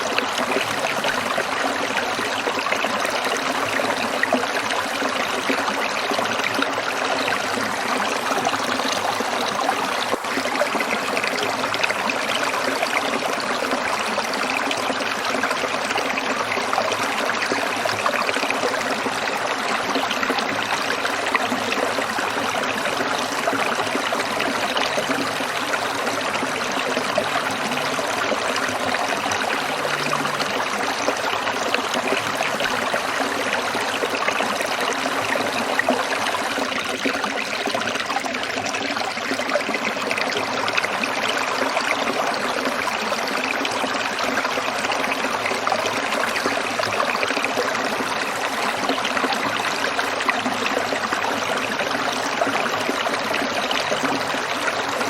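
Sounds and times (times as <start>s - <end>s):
stream burbling over stones: 0.0s - 55.0s.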